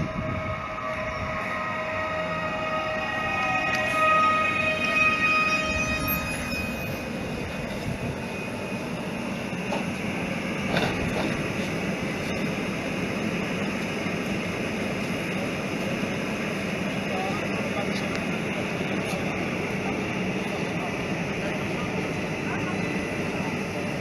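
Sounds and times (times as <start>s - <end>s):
train rumbling by: 0.0s - 24.0s.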